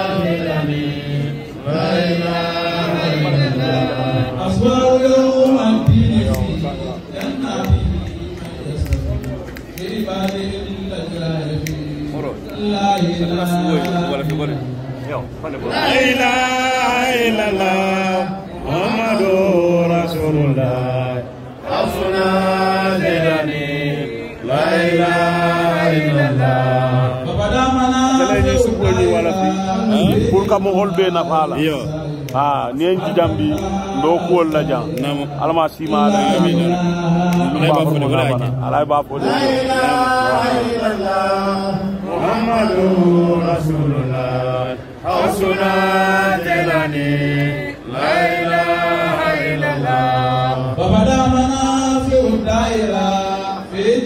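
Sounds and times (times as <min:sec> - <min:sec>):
men chanting devotional phrases: 0:00.0 - 0:54.0.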